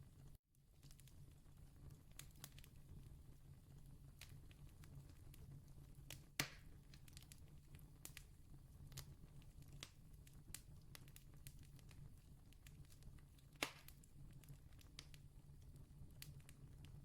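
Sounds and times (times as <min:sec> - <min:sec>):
campfire crackling: 0:00.8 - 0:17.0.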